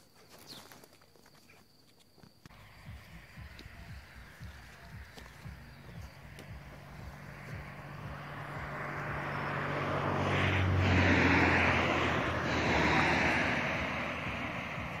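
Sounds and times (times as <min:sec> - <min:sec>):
engine passing by: 0:02.5 - 0:15.0.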